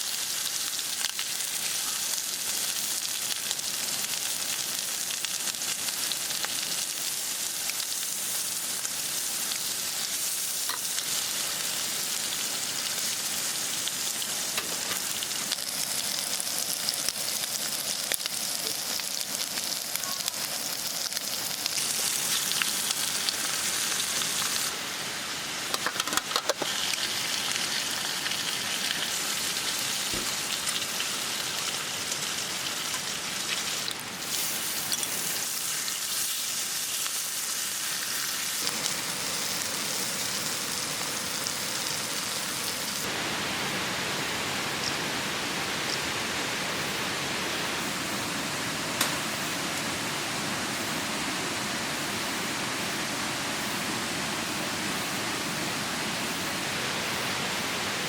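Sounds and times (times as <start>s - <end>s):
pork sizzling and crackling: 0.0s - 51.1s.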